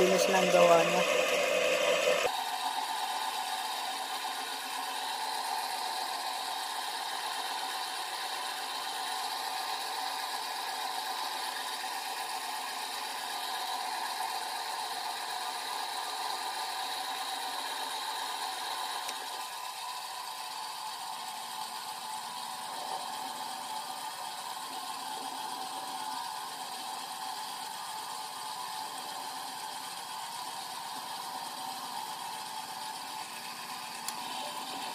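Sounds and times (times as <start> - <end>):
metal lathe whirring: 0.0 - 34.9.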